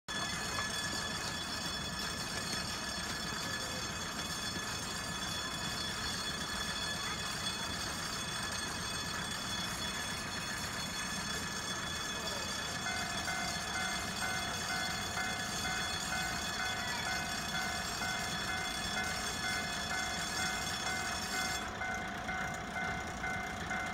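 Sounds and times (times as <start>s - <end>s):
fast beeping: 0.1s - 23.9s
thin steady whine: 0.1s - 23.9s
diesel engine idling rumble: 0.2s - 23.9s.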